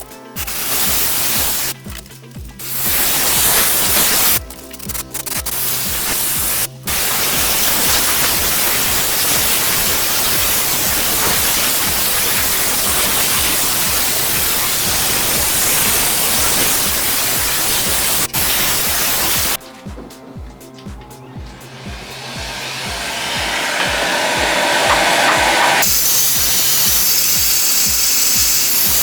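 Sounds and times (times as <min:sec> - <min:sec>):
steam cleaner hissing: 0:00.0 - 0:01.8, 0:02.6 - 0:19.6, 0:21.4 - 0:29.0.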